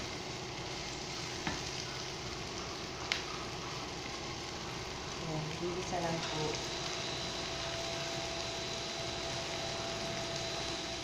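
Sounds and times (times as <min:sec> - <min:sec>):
onions sizzling in a frying pan: 0:00.0 - 0:11.0.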